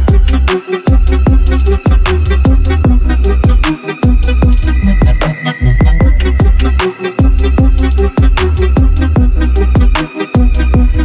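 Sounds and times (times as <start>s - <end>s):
deep kick drums: 0.0s - 11.0s
electronic music: 0.0s - 11.0s.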